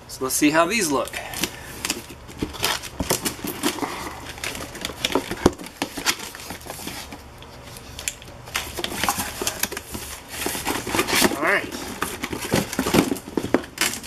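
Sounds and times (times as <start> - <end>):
cardboard box crackling and rustling: 1.4 - 7.4, 8.0 - 14.0.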